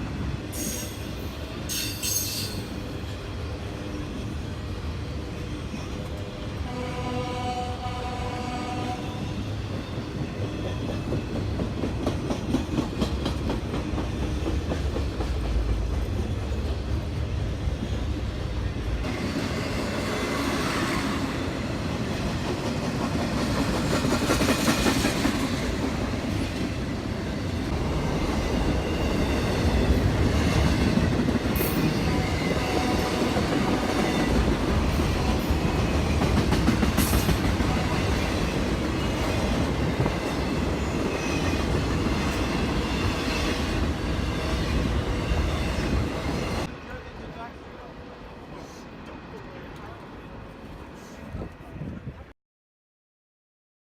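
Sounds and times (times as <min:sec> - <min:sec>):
train rolling past: 0:00.0 - 0:52.3.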